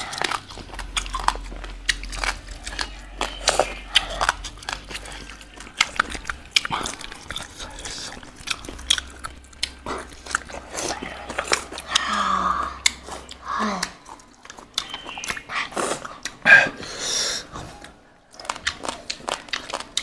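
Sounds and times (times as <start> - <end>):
wet mouth clicks and crunches: 0.0 - 17.0, 17.8 - 20.0
people chewing and biting: 0.0 - 20.0.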